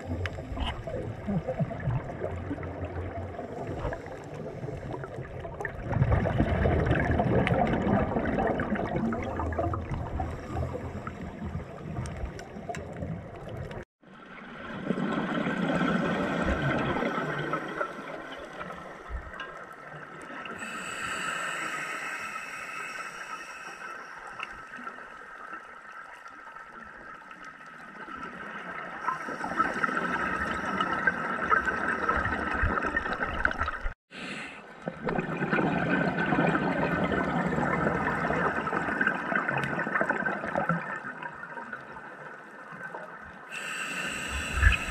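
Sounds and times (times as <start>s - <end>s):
scuba regulator bubbles gurgling: 0.0s - 25.2s, 27.9s - 34.0s, 34.8s - 44.9s.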